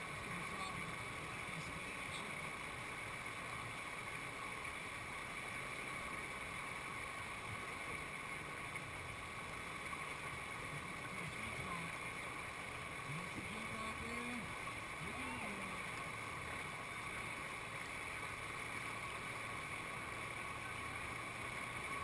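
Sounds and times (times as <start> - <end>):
whitewater rushing over rocks: 0.0 - 22.0.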